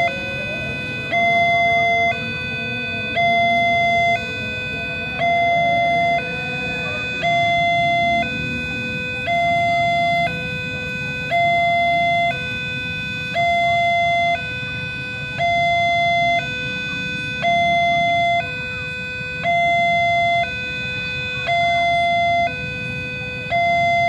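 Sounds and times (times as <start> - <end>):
level crossing alarm ding-dong: 0.0 - 14.7, 15.3 - 24.0
motorcycle traffic rumble: 0.0 - 24.0.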